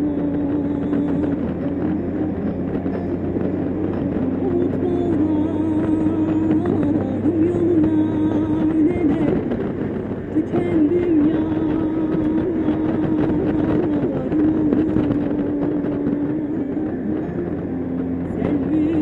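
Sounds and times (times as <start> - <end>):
motorcycle engine hum: 0.0 - 19.0
wind noise: 0.0 - 19.0.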